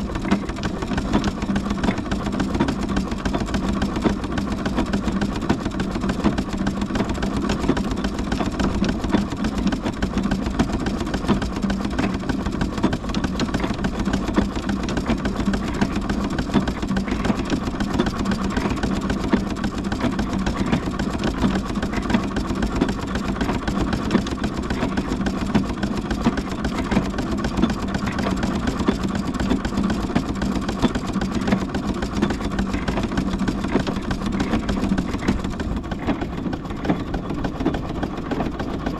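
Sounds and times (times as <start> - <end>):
steam traction engine running: 0.0 - 38.9.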